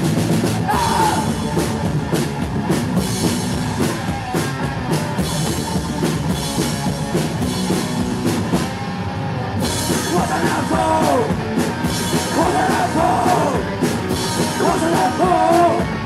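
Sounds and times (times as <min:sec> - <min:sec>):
drum kit steady beat: 0:00.0 - 0:08.8, 0:09.6 - 0:16.0
electric guitar: 0:00.0 - 0:16.0.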